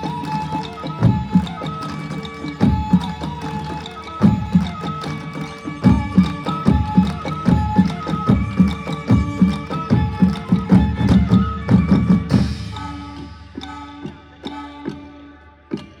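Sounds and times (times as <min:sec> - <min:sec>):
fast traditional drumming: 0:00.0 - 0:15.1.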